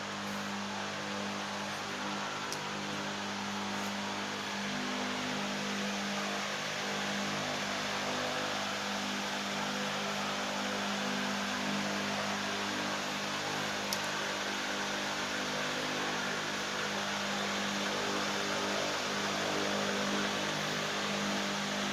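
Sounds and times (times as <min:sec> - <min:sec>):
engine running steadily: 0:00.0 - 0:21.9.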